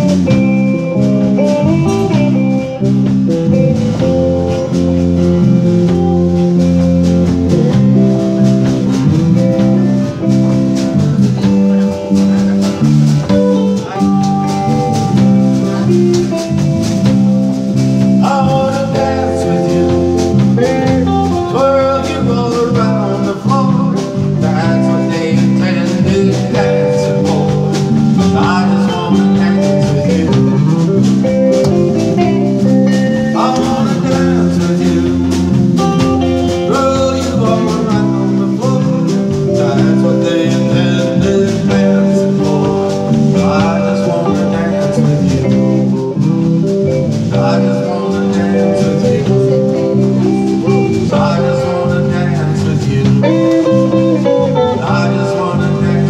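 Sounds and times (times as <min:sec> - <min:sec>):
acoustic guitar: 0:00.0 - 0:56.0
drums: 0:00.0 - 0:56.0
electric bass: 0:00.0 - 0:56.0
man singing: 0:00.0 - 0:56.0.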